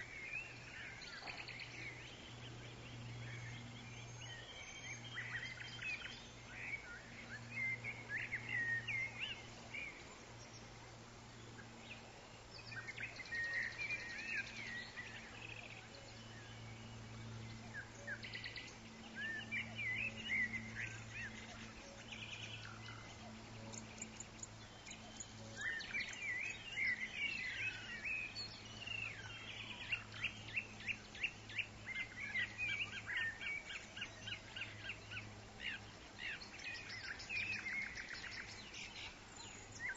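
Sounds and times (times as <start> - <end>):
background hiss: 0.0 - 39.9
birds chirping and trilling: 0.0 - 39.9
steady low hum: 0.0 - 39.9.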